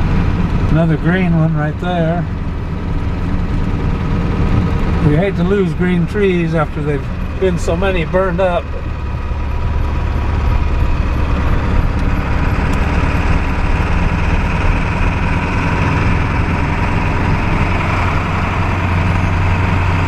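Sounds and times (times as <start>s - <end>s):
road noise: 0.0s - 20.0s
truck engine drone: 0.0s - 20.0s.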